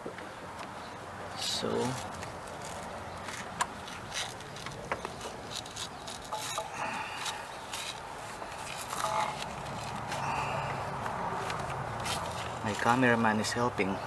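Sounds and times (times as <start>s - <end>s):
tool and belt clicks and scrapes: 1.4s - 13.1s.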